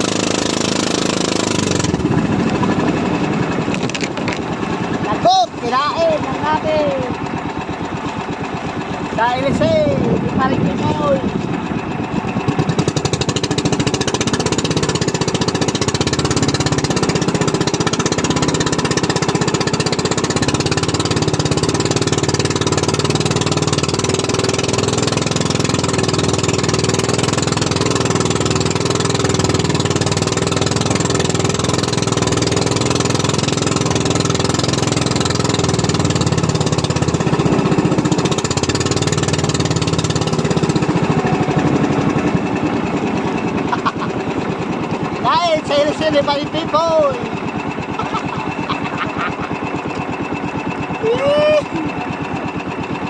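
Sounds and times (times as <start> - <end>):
boat engine chugging: 0.0 - 53.0.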